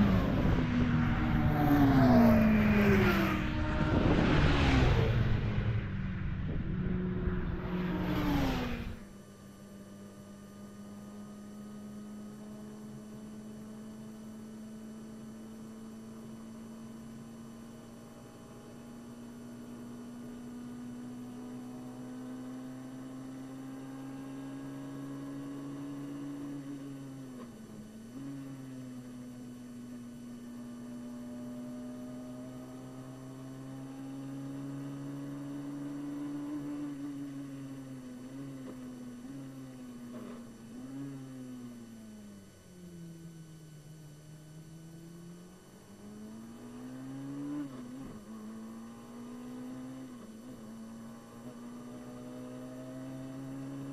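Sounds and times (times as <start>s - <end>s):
racing car engine at high revs: 0.0s - 53.9s.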